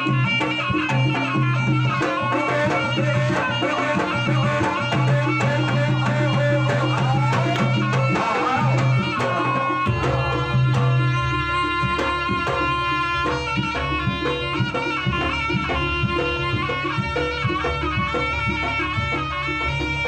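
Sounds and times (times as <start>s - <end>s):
hand drums beating quickly: 0.0s - 20.0s.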